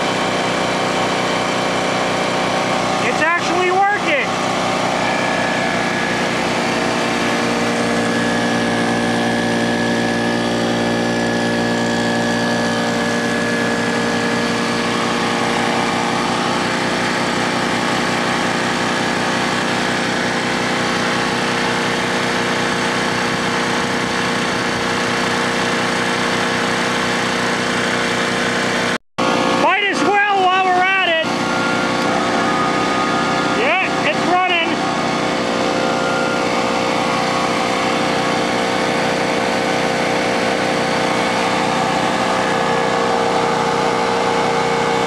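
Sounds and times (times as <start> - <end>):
air compressor running: 0.0 - 45.0
generator engine running: 0.0 - 45.0.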